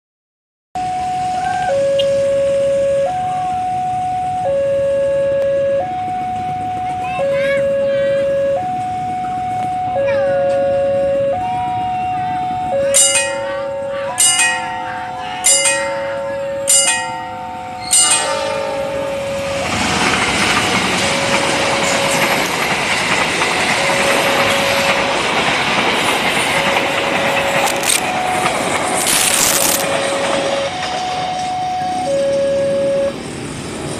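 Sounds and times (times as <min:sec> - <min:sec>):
level crossing warning bell: 0:00.8 - 0:33.8
train wheels rushing on rails: 0:05.8 - 0:33.9.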